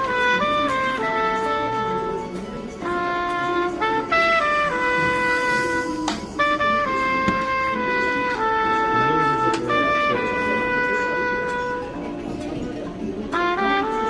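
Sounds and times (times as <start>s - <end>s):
store background noise: 0.0s - 14.0s
brass-like phone ringtone melody: 0.2s - 12.1s.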